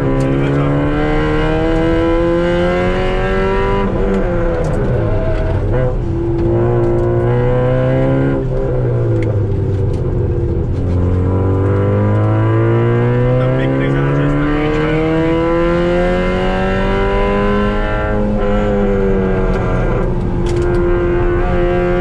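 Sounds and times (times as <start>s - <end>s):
car engine from inside cabin: 0.0s - 22.0s.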